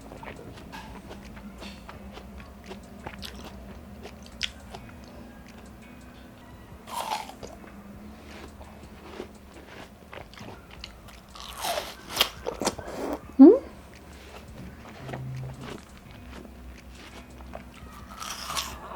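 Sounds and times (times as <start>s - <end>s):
watermelon crunching and chewing: 0.0s - 6.0s, 6.8s - 18.9s.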